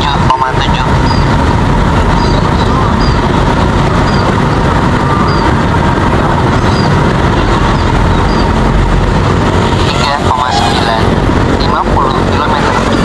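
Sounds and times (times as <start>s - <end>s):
faint drone whine: 0.0s - 13.0s
propeller wash rushing: 0.0s - 13.0s.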